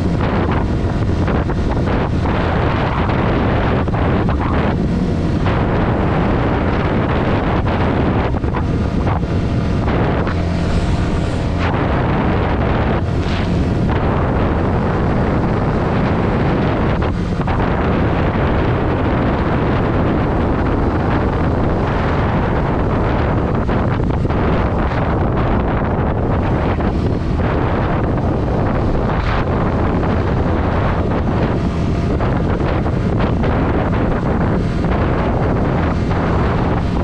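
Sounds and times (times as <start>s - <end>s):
wind rush on microphone: 0.0s - 37.0s.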